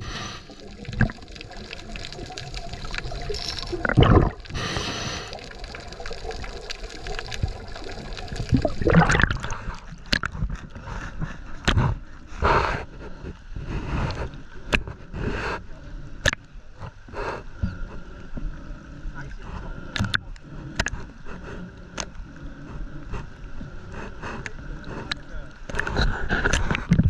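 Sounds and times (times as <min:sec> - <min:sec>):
water gurgling and sloshing: 0:00.0 - 0:27.0.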